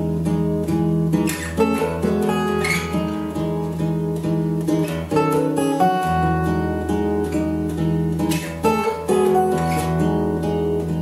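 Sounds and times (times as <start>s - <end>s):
acoustic guitars strumming chords: 0.0s - 11.0s.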